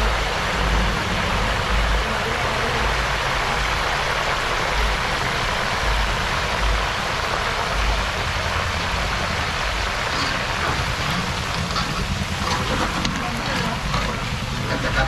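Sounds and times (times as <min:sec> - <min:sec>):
low rumble: 0:00.0 - 0:15.0
chips sizzling in hot oil: 0:02.4 - 0:15.0.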